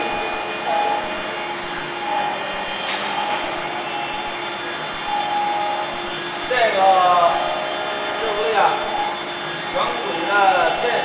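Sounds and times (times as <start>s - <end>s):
router spindle whining: 0.0s - 11.0s.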